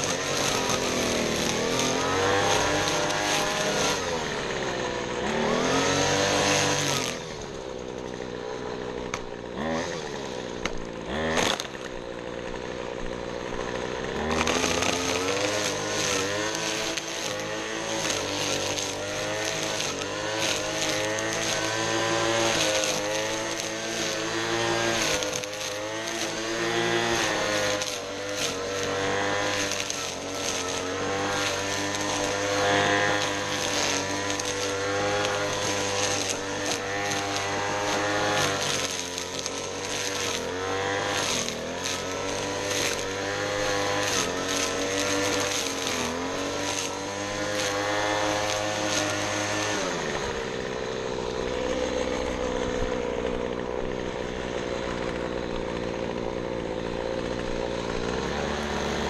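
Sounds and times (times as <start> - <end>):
lawn mower engine labouring: 0.0 - 59.0
small engine running: 0.0 - 59.0.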